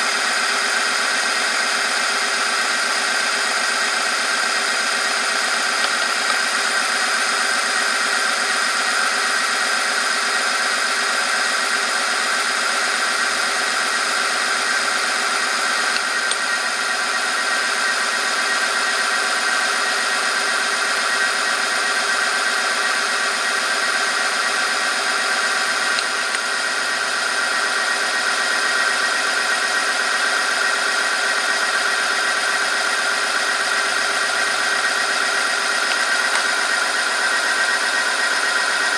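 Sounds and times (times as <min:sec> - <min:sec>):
high mechanical whine: 0:00.0 - 0:38.9.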